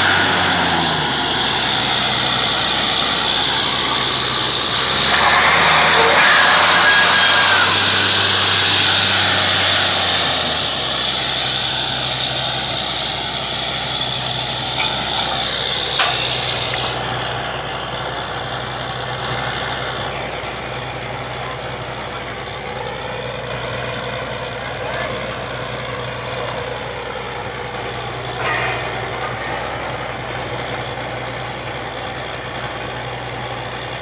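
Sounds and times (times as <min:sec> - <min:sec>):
engine drone: 0:00.0 - 0:34.0.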